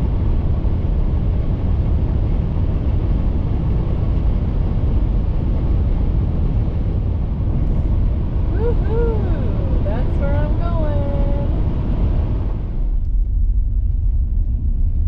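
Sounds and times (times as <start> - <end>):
car road rumble from inside: 0.0 - 15.0.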